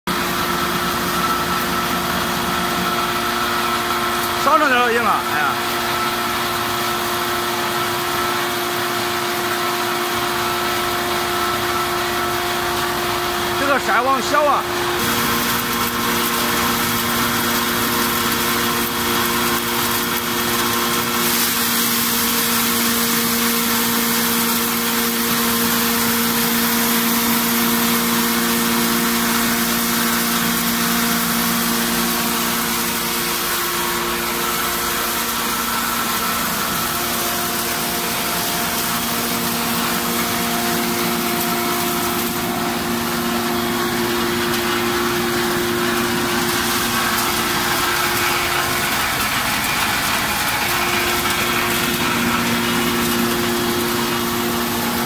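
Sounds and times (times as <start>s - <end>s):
feed crusher grinding corn: 0.1s - 55.0s.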